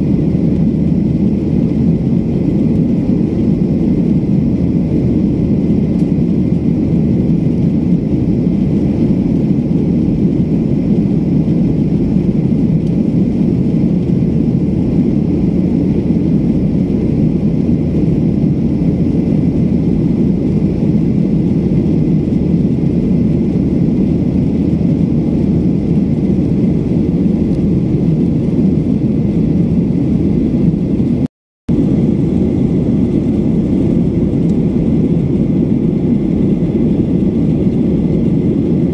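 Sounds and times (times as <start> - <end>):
jet airliner cabin drone: 0.0 - 38.9.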